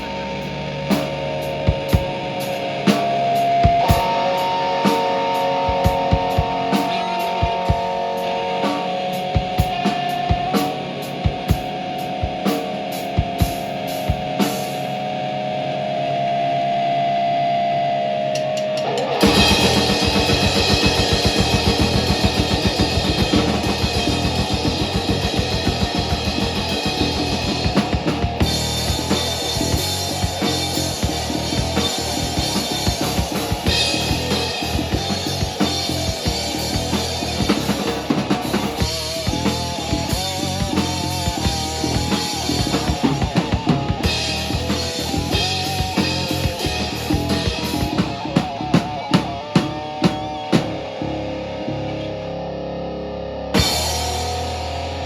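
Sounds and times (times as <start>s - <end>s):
drums and cymbals: 0.0s - 15.2s, 18.3s - 50.8s, 53.6s - 55.0s
distorted electric guitar: 0.0s - 55.0s.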